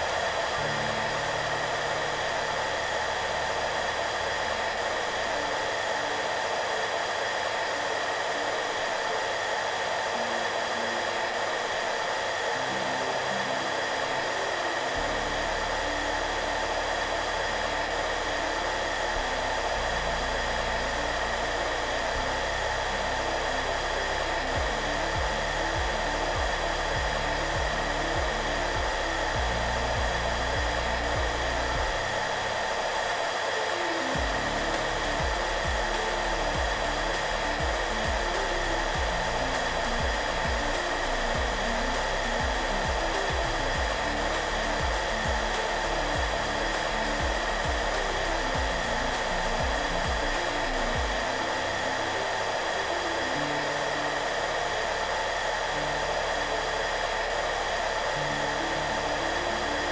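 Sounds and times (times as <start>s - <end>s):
hair dryer running: 0.0s - 59.9s
soft background music: 0.0s - 59.9s.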